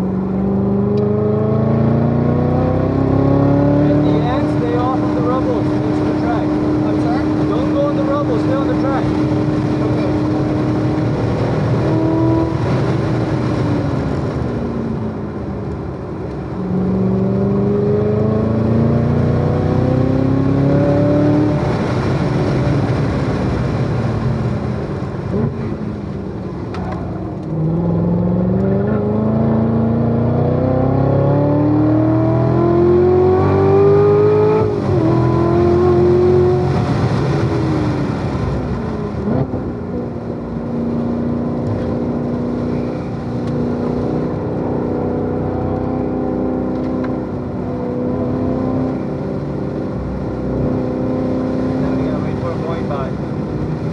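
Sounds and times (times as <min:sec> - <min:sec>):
sports car engine accelerating: 0:00.0 - 0:53.9.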